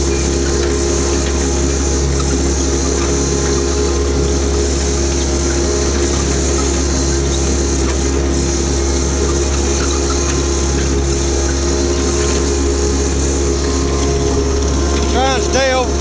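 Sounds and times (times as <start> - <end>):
mower diesel engine droning: 0.0 - 16.0.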